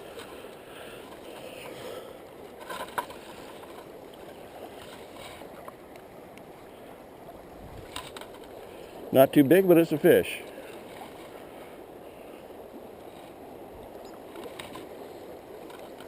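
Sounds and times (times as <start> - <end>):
steady water noise: 0.0 - 16.0.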